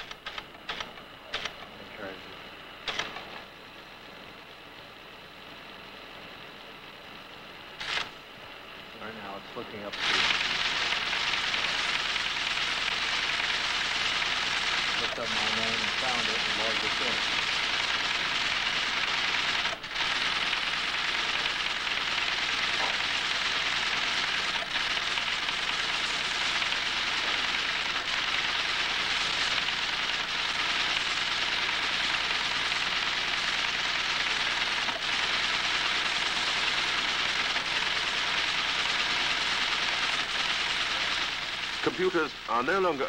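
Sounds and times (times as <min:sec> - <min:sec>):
teleprinter clattering: 0:00.0 - 0:01.7, 0:02.9 - 0:03.4, 0:10.0 - 0:42.6.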